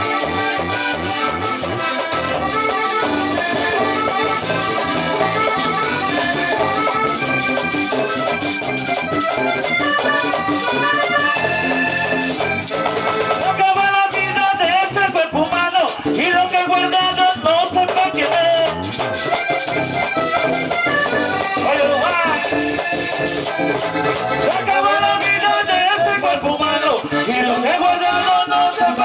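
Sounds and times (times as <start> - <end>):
band playing: 0.0 - 29.0
button accordion: 0.0 - 29.0.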